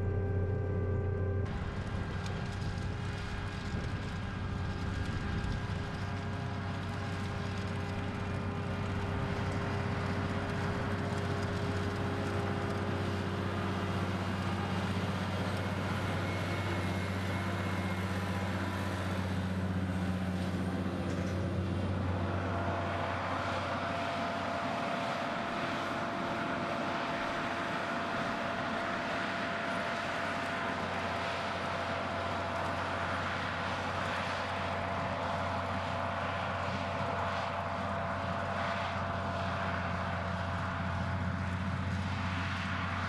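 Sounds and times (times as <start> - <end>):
engine low hum: 0.0 - 43.0.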